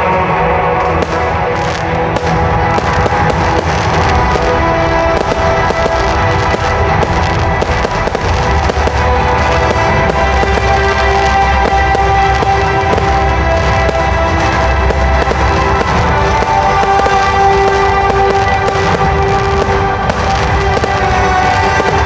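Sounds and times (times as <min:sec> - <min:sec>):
music playing: 0:00.0 - 0:22.0
fireworks bursting and crackling: 0:00.7 - 0:22.0.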